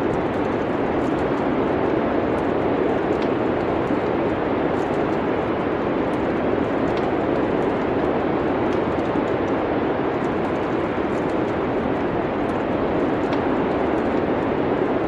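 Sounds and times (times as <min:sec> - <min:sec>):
rushing wind: 0:00.0 - 0:15.0
wood fire crackling: 0:00.0 - 0:15.0.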